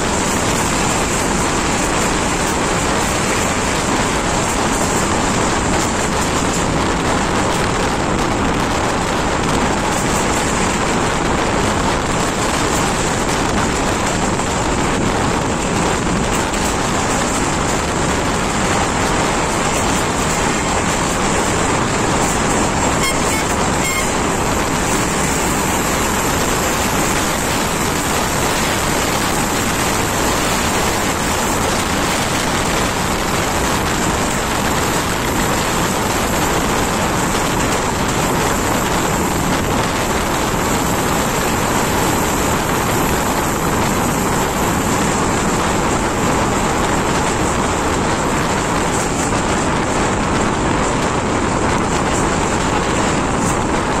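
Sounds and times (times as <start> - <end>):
passenger train running on track: 0.0 - 54.0
wind on microphone: 0.0 - 54.0.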